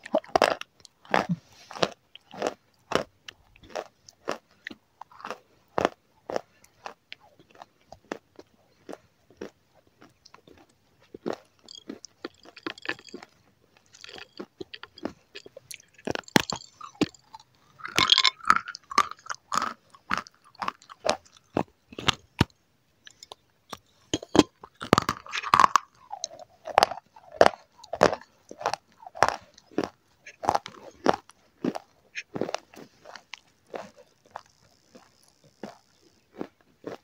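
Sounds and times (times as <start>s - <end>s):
crunchy snack chewing: 0.0s - 37.0s.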